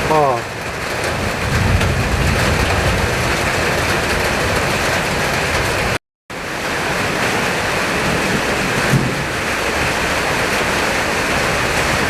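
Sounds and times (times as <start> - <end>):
heavy rain: 0.0 - 12.0
strong wind: 0.0 - 12.0.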